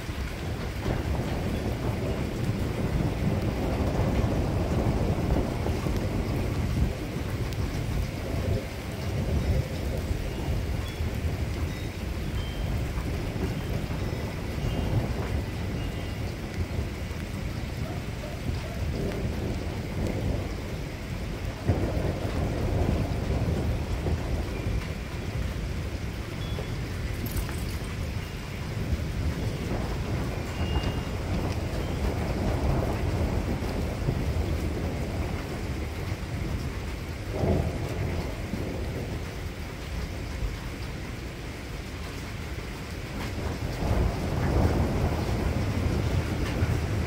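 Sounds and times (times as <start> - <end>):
thunder rumbling: 0.0 - 47.0.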